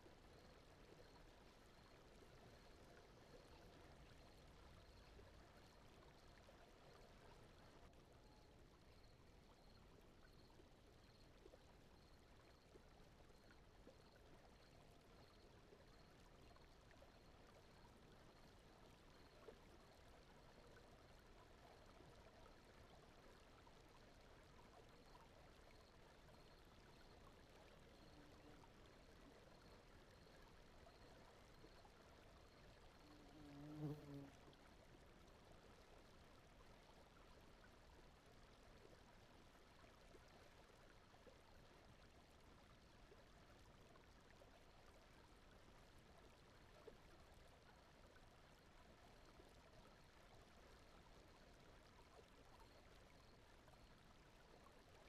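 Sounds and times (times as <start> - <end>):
flowing stream: 0.0 - 33.0, 34.3 - 55.0
faint brown noise: 0.0 - 55.0.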